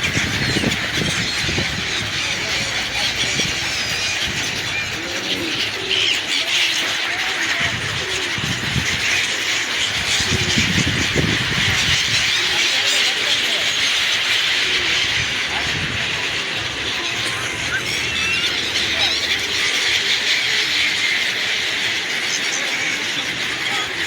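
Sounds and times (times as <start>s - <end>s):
flock of birds chirping: 0.0s - 24.0s.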